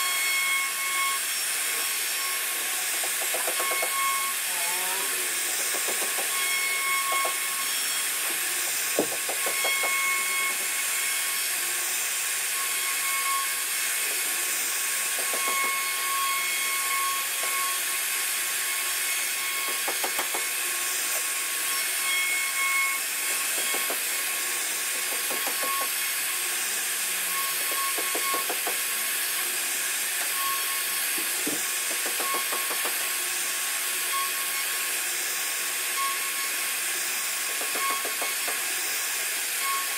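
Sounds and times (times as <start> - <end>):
cutter rasping into wood: 0.0 - 39.9
router spindle whining: 0.0 - 39.9.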